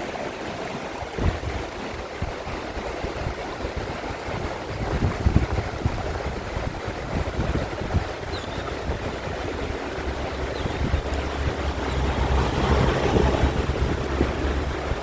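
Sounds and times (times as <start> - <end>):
stream water rushing: 0.0 - 15.0
wind rumbling on microphone: 1.0 - 15.0.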